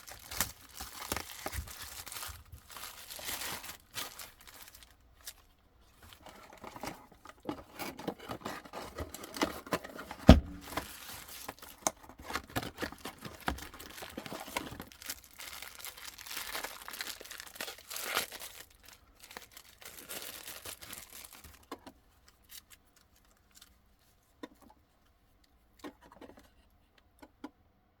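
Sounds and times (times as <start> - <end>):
wrapping crinkling and tearing: 0.0 - 9.8, 10.5 - 24.1.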